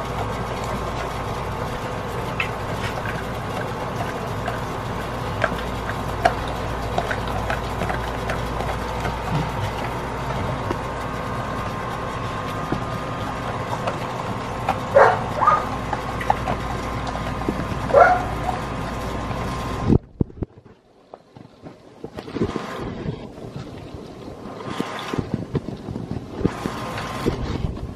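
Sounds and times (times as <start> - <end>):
puppy chewing meat: 0.0 - 27.9
steady hum: 0.0 - 27.9.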